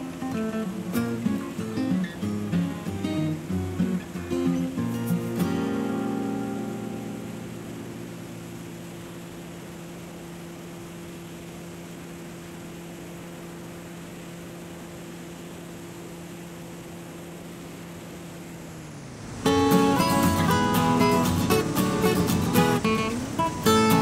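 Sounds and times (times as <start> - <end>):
airplane engine and propeller drone: 0.0 - 24.0.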